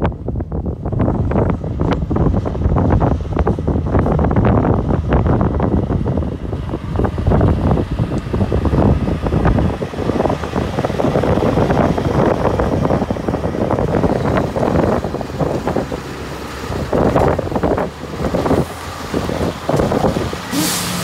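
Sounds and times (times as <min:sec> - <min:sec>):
truck pulling away: 0:00.0 - 0:21.0
wind buffeting microphone: 0:00.0 - 0:21.0.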